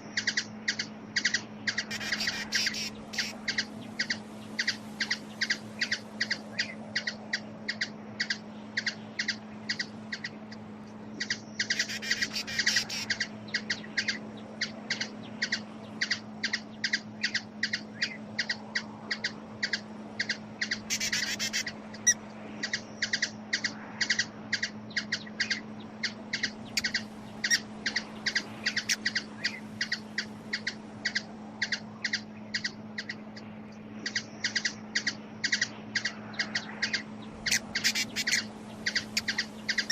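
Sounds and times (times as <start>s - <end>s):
hummingbird chip notes: 0.0s - 39.9s
steady low hum: 0.0s - 39.9s.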